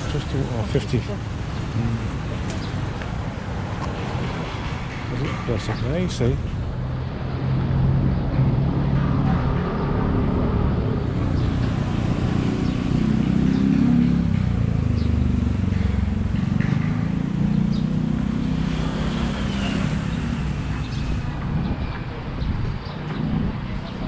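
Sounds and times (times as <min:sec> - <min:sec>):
road traffic rumble: 0:00.0 - 0:24.0
vehicle engines passing: 0:00.0 - 0:24.0.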